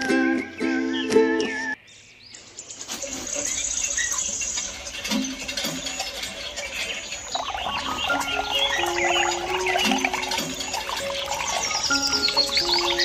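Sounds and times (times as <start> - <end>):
birds chirping: 0.0 - 13.0
rapid high bird trill: 2.5 - 13.0.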